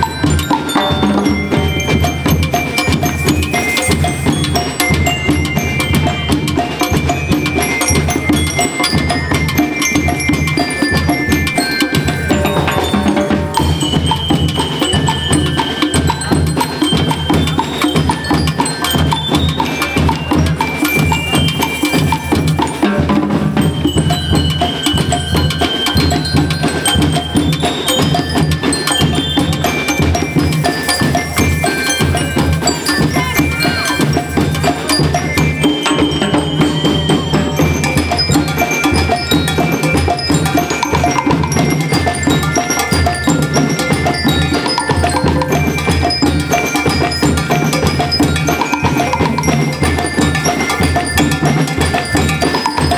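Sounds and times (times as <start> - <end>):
drums: 0.0 - 52.9
high ringing bell-like notes: 0.0 - 52.9.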